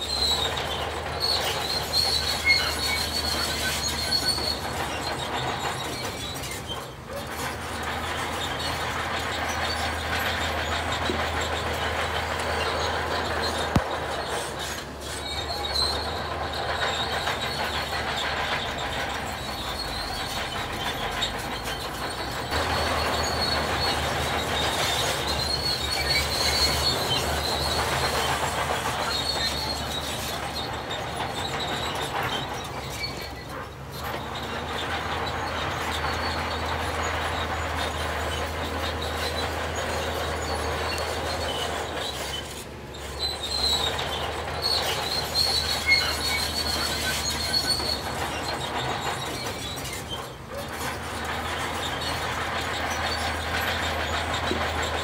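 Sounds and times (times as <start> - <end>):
diesel engines running: 0.0 - 55.0
high-pitched squeal: 0.0 - 55.0.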